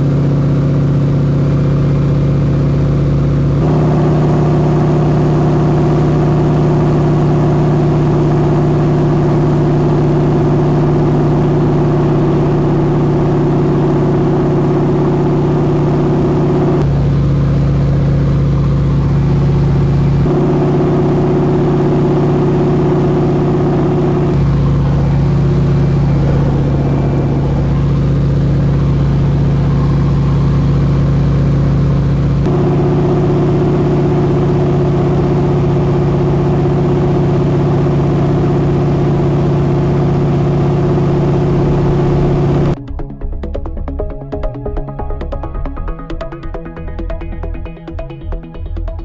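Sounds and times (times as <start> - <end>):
propeller plane engine drone: 0.0 - 49.0.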